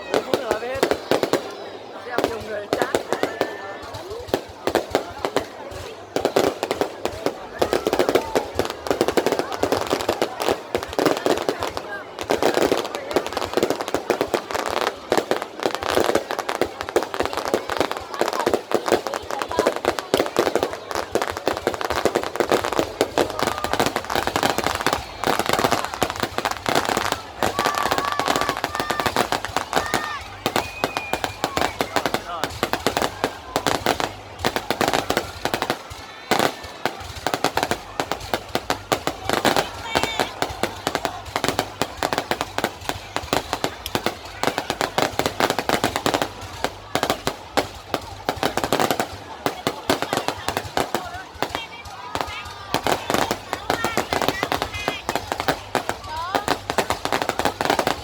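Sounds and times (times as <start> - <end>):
fireworks crackling bangs: 0.0 - 58.0
fireworks whistling: 6.2 - 58.0.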